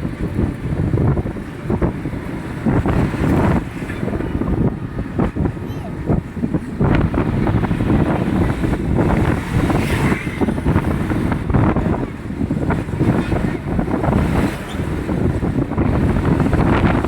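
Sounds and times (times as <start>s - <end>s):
vehicle noise: 0.0s - 17.0s
wind buffeting microphone: 0.0s - 17.0s.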